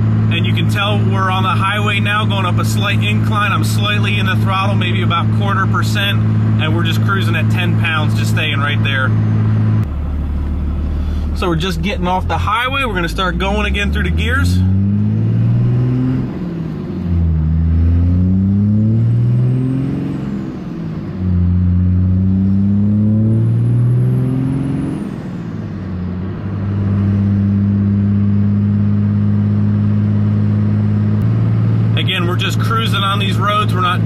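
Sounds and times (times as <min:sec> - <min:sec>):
diesel engine accelerating: 0:00.0 - 0:34.0.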